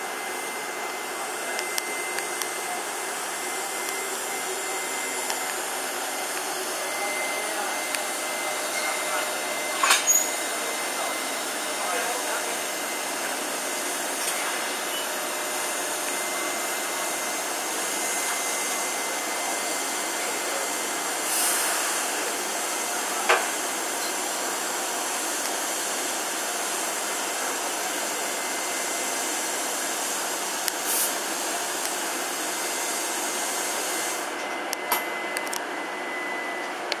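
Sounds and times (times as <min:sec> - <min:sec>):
locomotive blowers whirring: 0:00.0 - 0:37.0.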